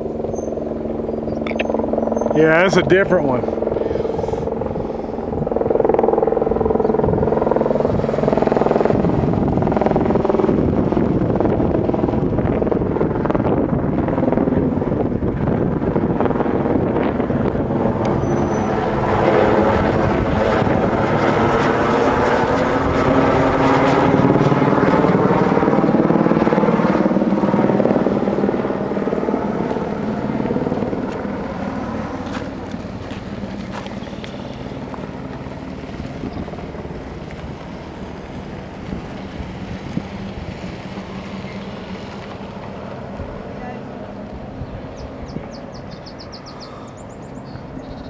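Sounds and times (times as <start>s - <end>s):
helicopter flying past: 0.0s - 48.0s.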